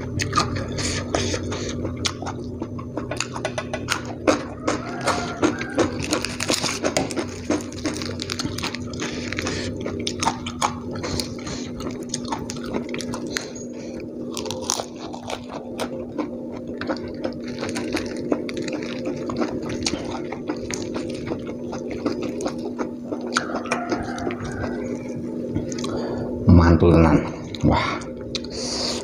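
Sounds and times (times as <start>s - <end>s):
chewing and crunching: 0.0s - 26.4s, 27.2s - 29.0s
steady low hum: 0.0s - 29.0s.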